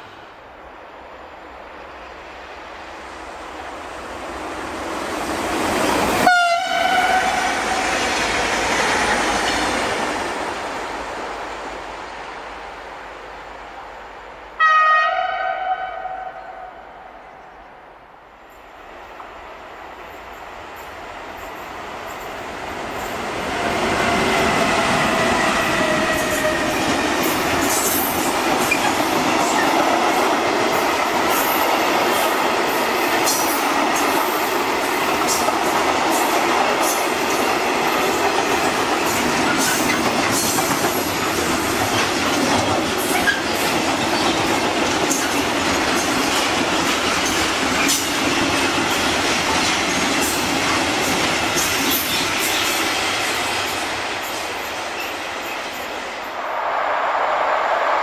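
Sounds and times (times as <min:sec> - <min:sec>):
freight train wheels rumbling: 0:01.5 - 0:14.6, 0:18.6 - 0:58.0.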